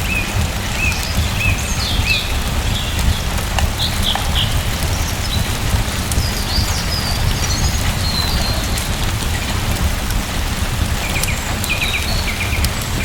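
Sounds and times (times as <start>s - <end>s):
small birds chirping: 0.0s - 13.0s
steady rain: 0.0s - 13.0s.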